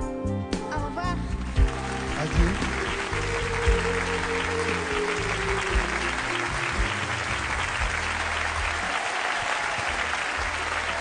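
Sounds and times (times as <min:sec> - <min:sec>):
audience applauding: 0:01.2 - 0:11.0.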